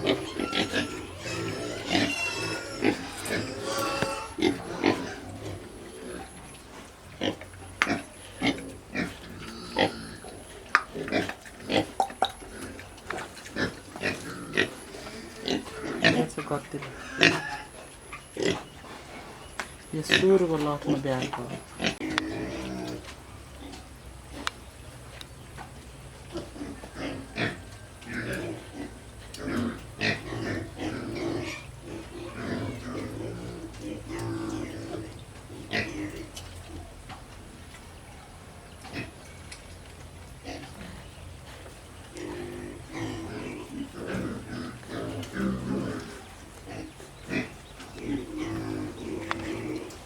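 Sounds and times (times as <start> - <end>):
pigs grunting and squealing: 0.0 - 50.0.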